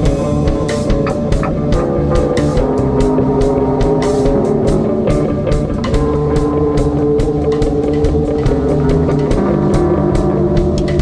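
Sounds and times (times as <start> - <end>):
bass line: 0.0 - 11.0
drums steady beat: 0.0 - 11.0
held guitar notes: 0.0 - 11.0.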